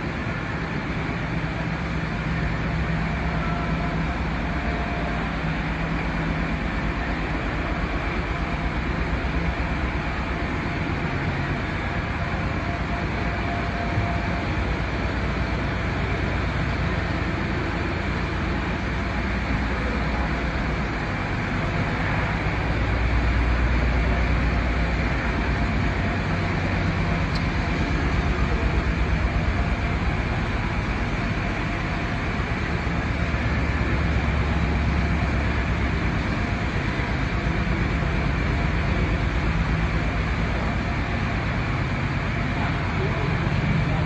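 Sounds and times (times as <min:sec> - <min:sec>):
surface grinder rumble and hum: 0:00.0 - 0:44.0.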